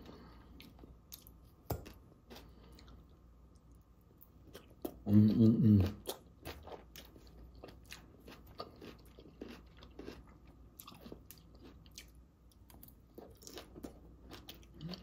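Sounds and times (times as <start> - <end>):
person chewing crunchy salad: 0.0 - 15.0.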